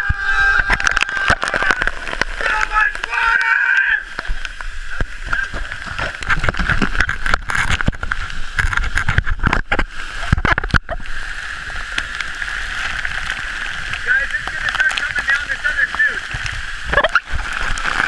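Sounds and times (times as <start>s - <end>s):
water rushing loudly: 0.0s - 18.0s.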